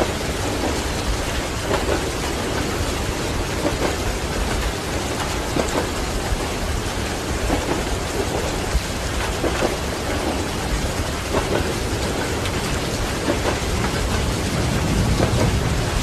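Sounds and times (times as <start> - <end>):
heavy rain: 0.0 - 16.0
individual raindrops: 0.0 - 16.0
low rumble of thunder: 0.0 - 16.0.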